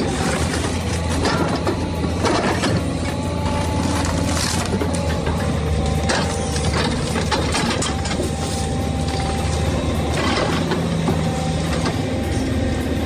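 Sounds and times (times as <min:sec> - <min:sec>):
wood cracking and breaking: 0:00.0 - 0:11.8
diesel engine under load: 0:00.0 - 0:13.0.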